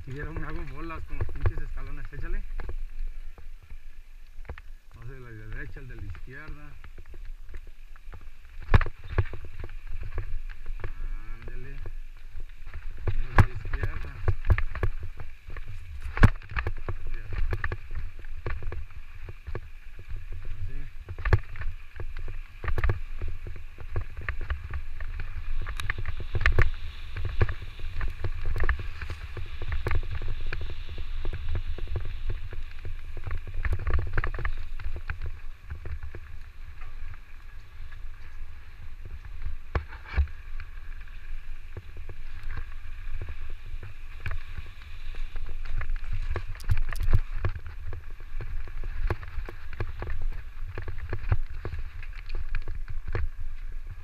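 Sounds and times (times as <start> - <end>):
bike knocking and rattling: 0.0 - 3.8, 4.4 - 54.0
wind rumbling on microphone: 0.0 - 54.0.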